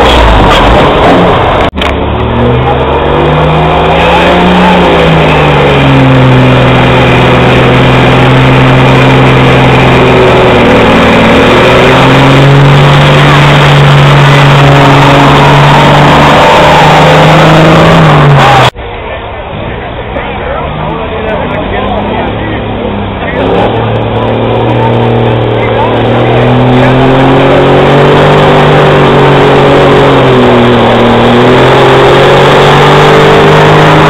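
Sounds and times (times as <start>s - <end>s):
truck diesel engine under load: 0.0s - 34.0s.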